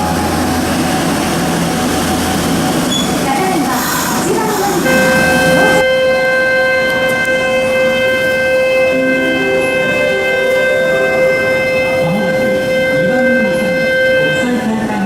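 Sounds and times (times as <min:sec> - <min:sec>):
faint shifting tones: 0:00.0 - 0:15.0
train electrical whine: 0:00.0 - 0:15.0.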